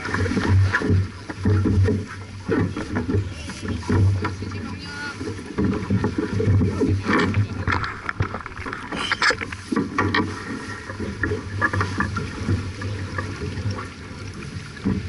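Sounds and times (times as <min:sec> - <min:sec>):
water rushing past boat: 0:00.0 - 0:15.0
wind: 0:00.0 - 0:15.0.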